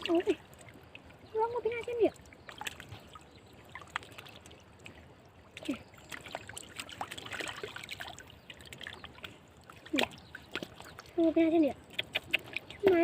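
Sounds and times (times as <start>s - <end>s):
shallow water trickling: 0.0s - 13.0s
small splashes and drips: 0.0s - 13.0s.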